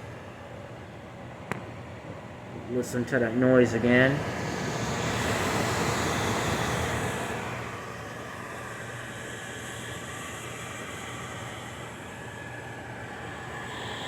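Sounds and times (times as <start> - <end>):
microwave oven fan whirring: 0.0 - 14.0.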